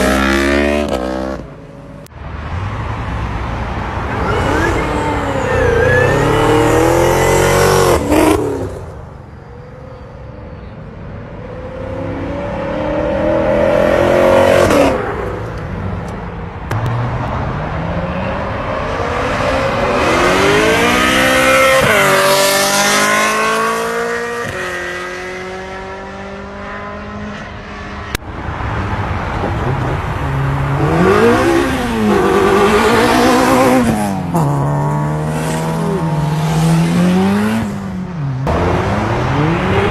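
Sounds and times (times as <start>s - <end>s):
cars revving and accelerating away: 0.0s - 39.9s.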